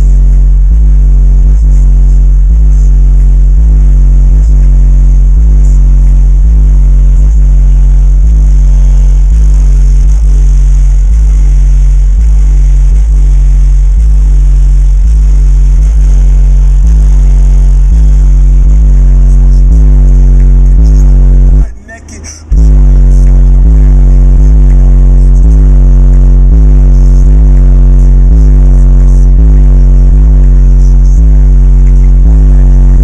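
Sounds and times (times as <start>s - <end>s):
deep bass line from subwoofers: 0.0s - 33.0s.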